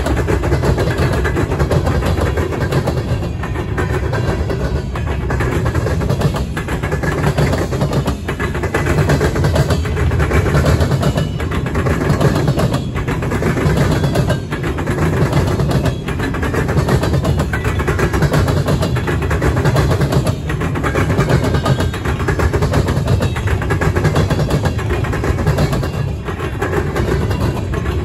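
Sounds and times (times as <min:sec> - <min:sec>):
freight car wheels rumbling on rail: 0:00.0 - 0:28.0.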